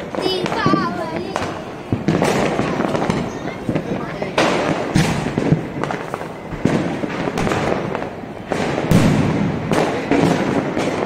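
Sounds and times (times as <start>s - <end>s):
firecrackers crackling: 0.0s - 11.0s
fireworks bangs: 0.0s - 11.0s.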